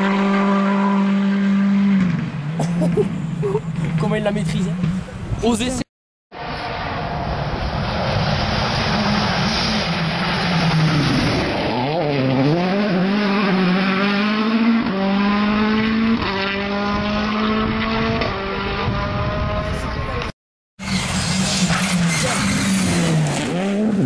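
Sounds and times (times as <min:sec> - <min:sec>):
rally car engine at full throttle: 0:00.0 - 0:05.4, 0:06.3 - 0:24.0
gravel and tyre noise: 0:00.0 - 0:24.0.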